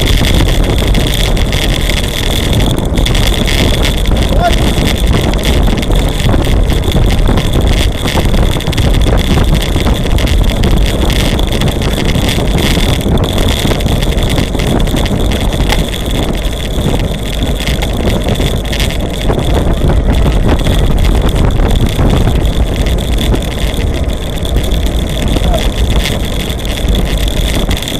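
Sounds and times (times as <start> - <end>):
road and tyre noise: 0.0 - 27.9
wind buffeting microphone: 0.0 - 27.9.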